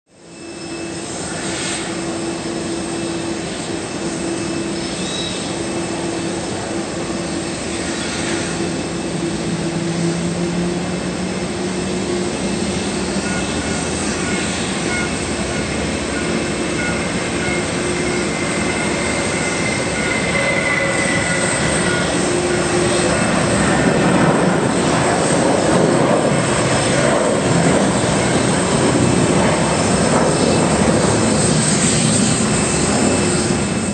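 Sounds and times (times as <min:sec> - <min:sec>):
jet engine roar: 0:00.1 - 0:33.9.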